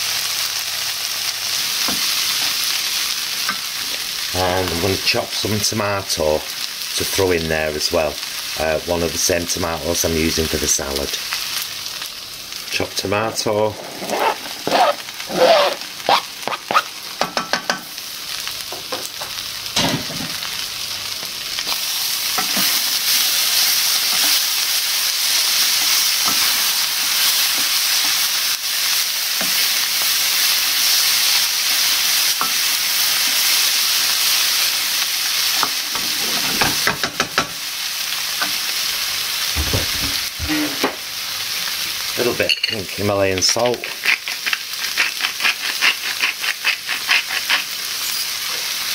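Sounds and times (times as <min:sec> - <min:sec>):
food sizzling in frying pan: 0:00.0 - 0:48.9.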